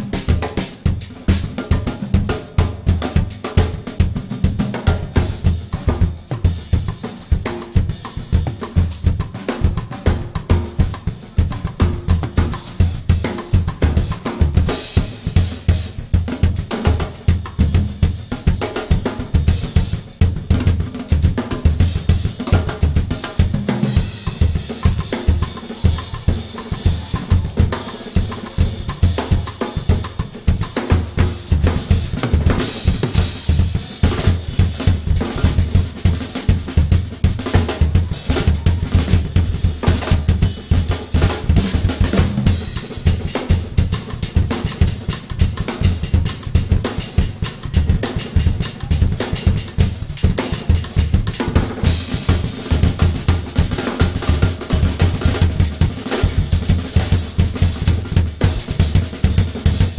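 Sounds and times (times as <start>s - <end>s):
fast drum kit playing: 0.0s - 59.9s.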